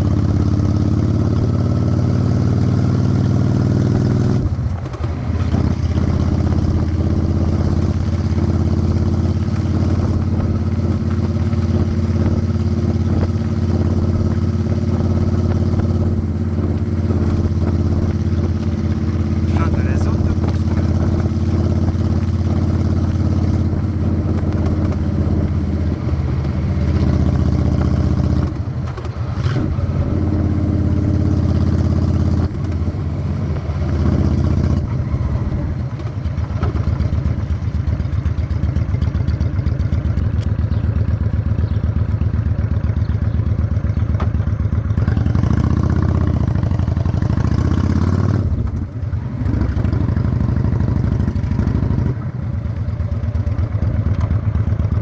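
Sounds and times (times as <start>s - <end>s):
motorcycle engine throbbing: 0.0s - 55.0s.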